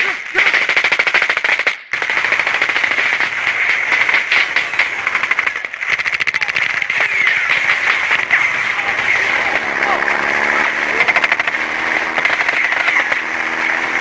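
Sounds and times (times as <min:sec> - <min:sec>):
machine gun firing: 0:00.0 - 0:14.0.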